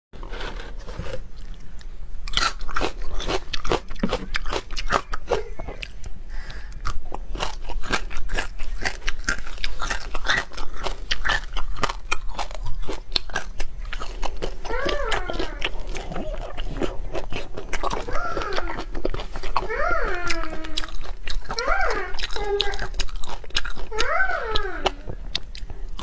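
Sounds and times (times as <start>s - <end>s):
chewing crunchy prawns: 0.3s - 26.0s.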